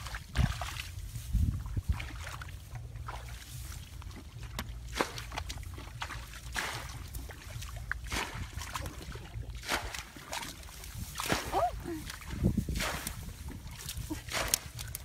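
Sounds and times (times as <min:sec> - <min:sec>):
hands splashing in muddy water: 0:00.0 - 0:15.0
low rumble: 0:00.0 - 0:15.0.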